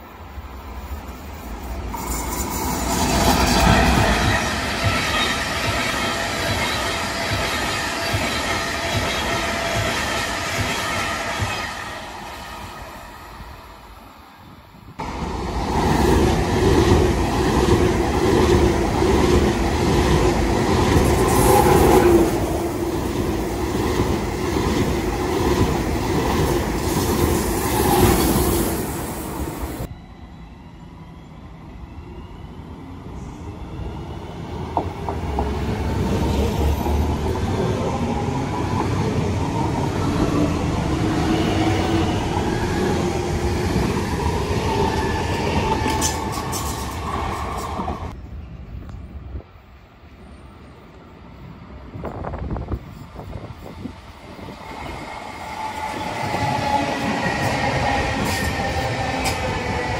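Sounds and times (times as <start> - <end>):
electric train pulling in: 0.0 - 48.7, 50.0 - 59.9
high-speed train passing: 0.0 - 59.9.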